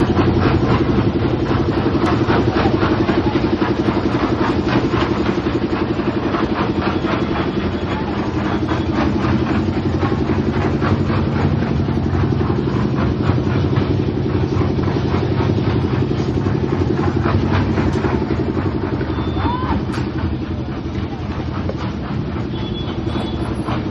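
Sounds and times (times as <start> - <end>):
engine running: 0.0 - 23.9
fast clatter of knocks: 0.0 - 23.9.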